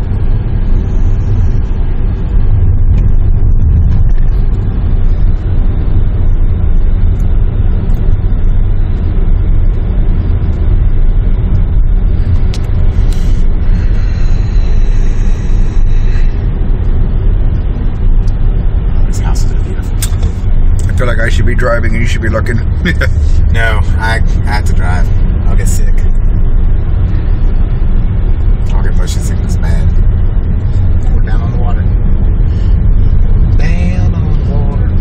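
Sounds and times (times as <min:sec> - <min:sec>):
car cabin rumble in motion: 0:00.0 - 0:35.0.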